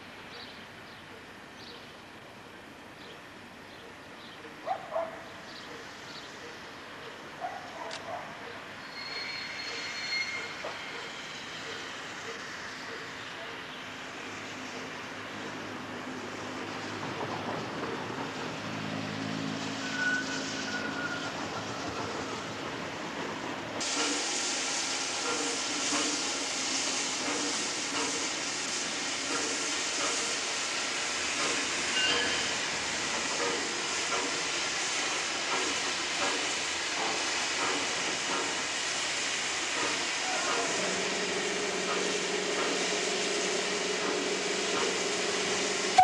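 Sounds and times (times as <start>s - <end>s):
steam locomotive hissing: 8.6s - 46.0s.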